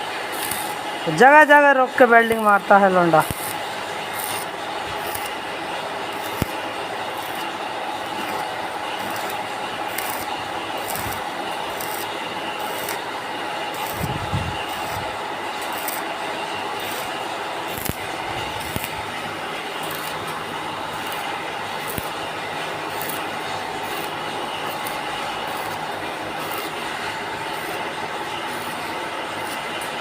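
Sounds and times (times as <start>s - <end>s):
welding arc hissing: 0.0s - 30.0s.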